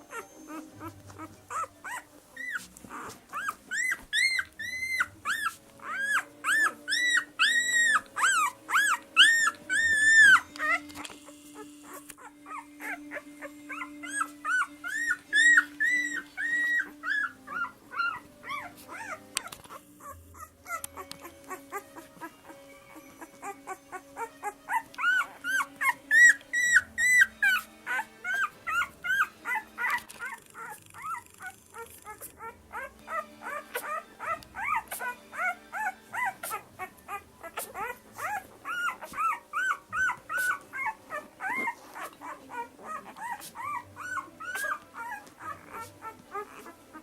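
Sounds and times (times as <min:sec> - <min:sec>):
puppy whimpering and crying: 0:00.0 - 0:47.0.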